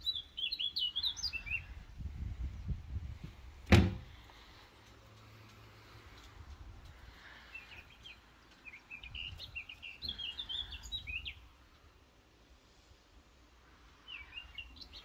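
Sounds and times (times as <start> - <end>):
songbird singing: 0.0 - 12.1, 13.6 - 15.0.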